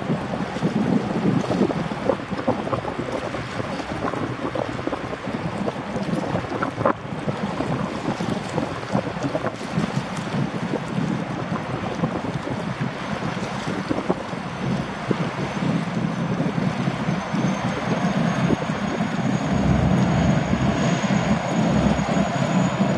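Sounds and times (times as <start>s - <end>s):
wind buffeting microphone: 0.0s - 22.9s
water jet rushing noise: 0.7s - 22.9s.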